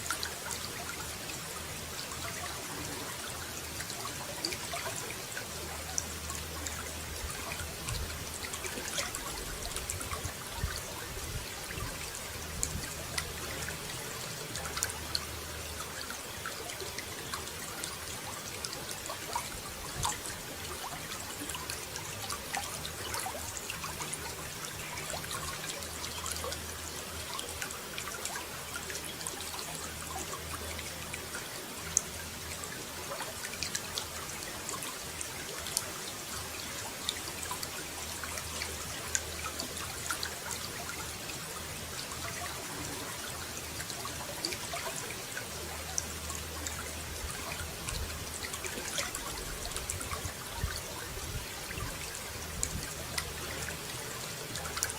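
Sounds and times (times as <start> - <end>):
water trickling and splashing: 0.0 - 54.9.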